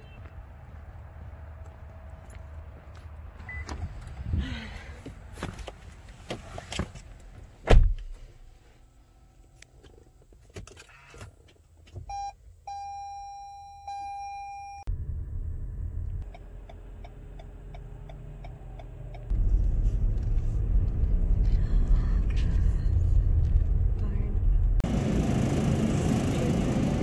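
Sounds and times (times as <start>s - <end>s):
engine and road noise in car: 0.0s - 27.0s.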